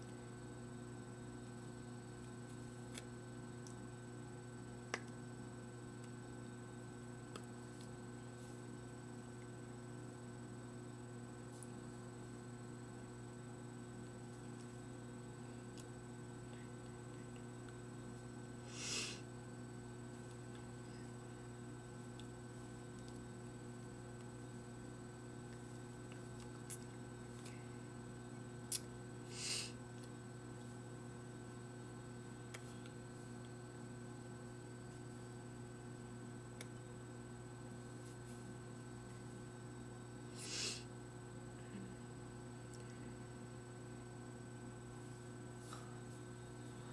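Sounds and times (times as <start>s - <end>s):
electrical mains hum: 0.0s - 46.9s.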